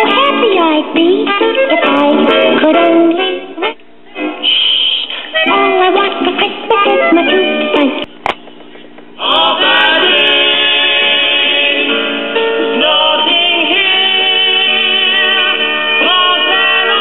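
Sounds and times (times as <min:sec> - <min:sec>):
record playing music with singing: 0:00.0 - 0:17.0.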